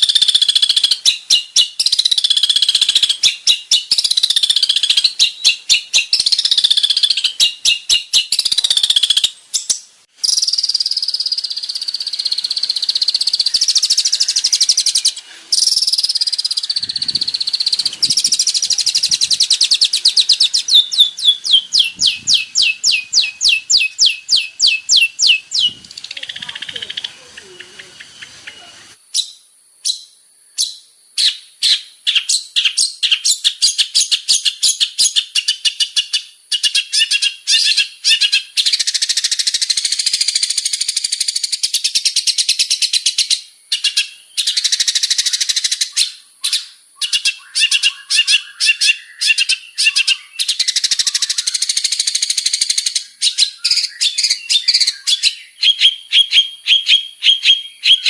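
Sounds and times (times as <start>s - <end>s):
bird song chattering and warbling: 0.0s - 35.3s, 36.6s - 58.0s.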